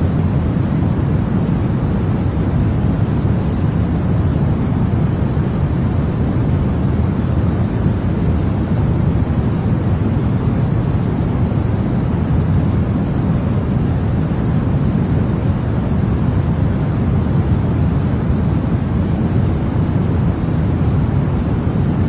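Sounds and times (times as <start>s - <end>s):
deep rumbly white noise: 0.0s - 22.0s.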